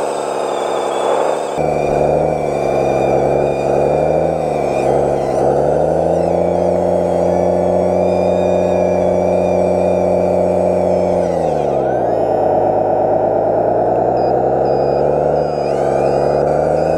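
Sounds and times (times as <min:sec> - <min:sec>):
electric motors whining: 0:00.0 - 0:16.9.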